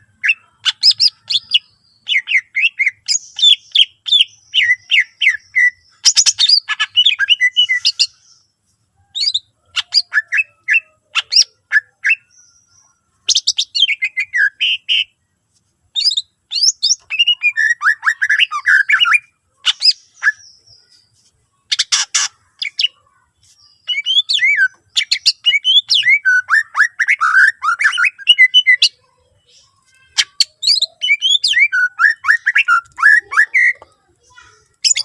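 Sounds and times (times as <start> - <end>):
bird singing chattering song: 0.0 - 35.0.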